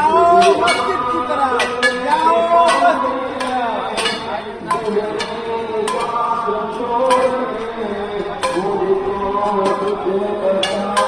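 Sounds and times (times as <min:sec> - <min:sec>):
percussion strikes: 0:00.0 - 0:11.0
person singing devotional song: 0:00.0 - 0:11.0.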